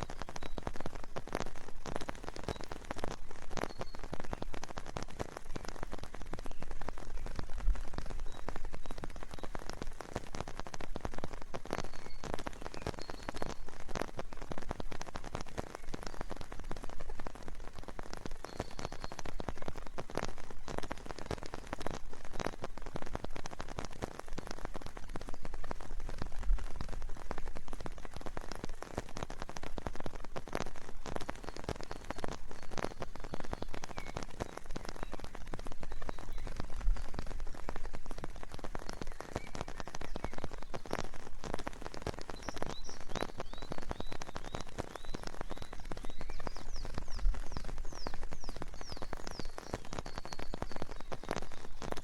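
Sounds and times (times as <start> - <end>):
raindrops tapping close by: 0.0 - 52.0
steady rain: 0.0 - 52.0.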